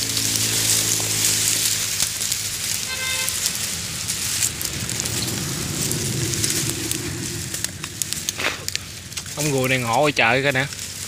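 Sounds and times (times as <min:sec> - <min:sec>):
dry reeds rustling and snapping: 0:00.0 - 0:11.0
low murmur: 0:00.2 - 0:11.0.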